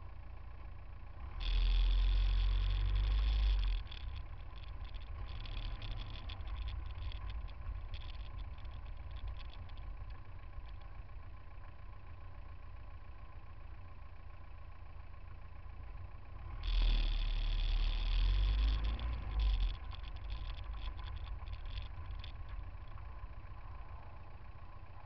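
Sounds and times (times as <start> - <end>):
car engines idling: 0.0 - 25.0.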